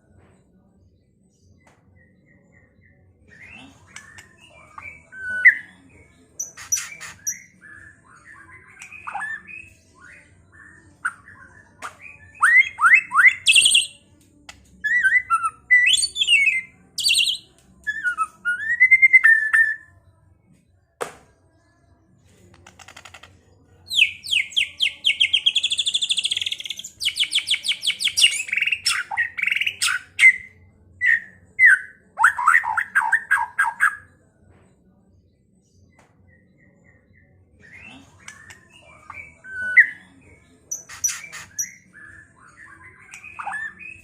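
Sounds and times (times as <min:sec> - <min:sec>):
bird singing: 0:01.5 - 0:14.0, 0:14.8 - 0:19.9, 0:23.8 - 0:34.0, 0:35.8 - 0:44.0.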